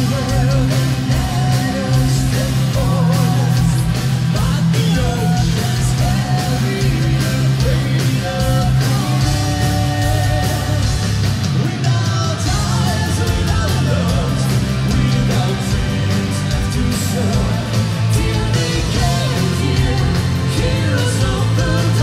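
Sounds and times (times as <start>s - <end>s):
distorted electric guitars: 0.0s - 22.0s
drums: 0.0s - 22.0s.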